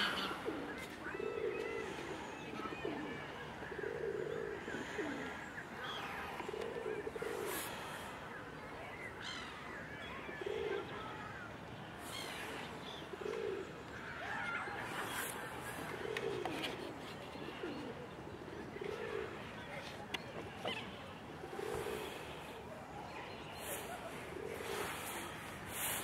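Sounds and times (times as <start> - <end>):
pigeons cooing: 0.0 - 8.3, 10.1 - 19.9, 20.5 - 26.0
birds chirping: 0.0 - 26.0.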